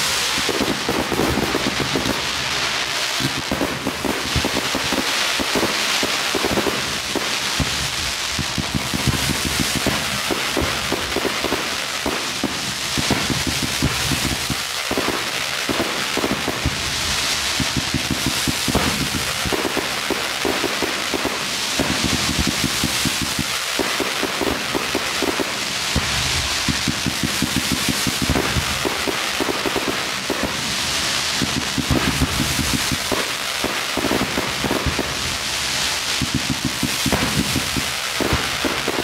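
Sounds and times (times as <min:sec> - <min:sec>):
fireworks crackling: 0:00.0 - 0:39.0
steady hiss: 0:00.0 - 0:39.0.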